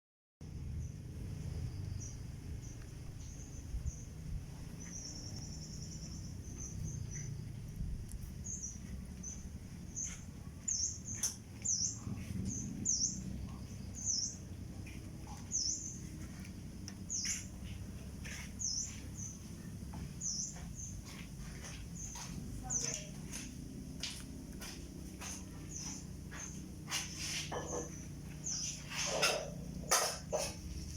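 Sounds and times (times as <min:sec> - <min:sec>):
bird chirping: 0:00.6 - 0:23.4, 0:24.6 - 0:30.9.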